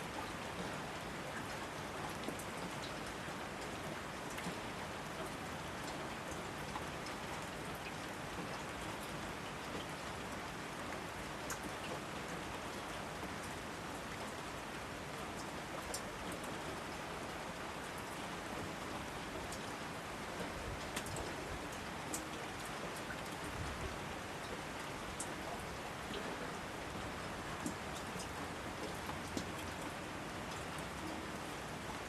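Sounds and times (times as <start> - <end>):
raindrops ticking on surfaces: 0.0 - 32.0
steady rain hiss: 0.0 - 32.0.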